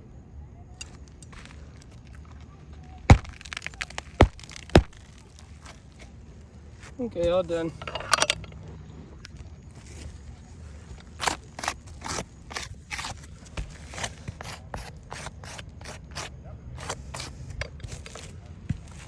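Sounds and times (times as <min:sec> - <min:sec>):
low background rumble: 0:00.0 - 0:19.0
scrapes and scuffs: 0:00.8 - 0:07.9, 0:08.7 - 0:19.0.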